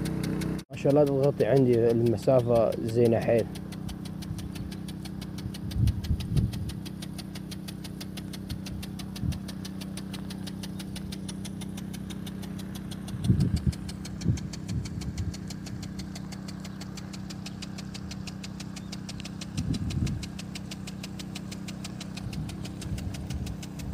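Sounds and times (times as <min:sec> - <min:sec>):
petrol engine water pump running: 0:00.0 - 0:23.9
short low thumps: 0:01.2 - 0:23.9.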